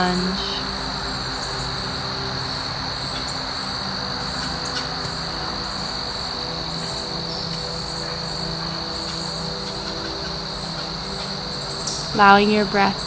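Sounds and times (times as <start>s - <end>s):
high-pitched insect trill: 0.0s - 13.0s
soft music of low held notes: 0.0s - 13.0s.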